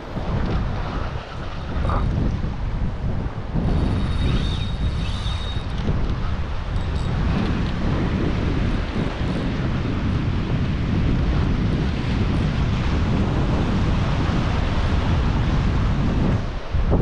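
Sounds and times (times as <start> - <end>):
waves breaking against rocks: 0.0 - 17.0
wind buffeting microphone: 0.0 - 17.0.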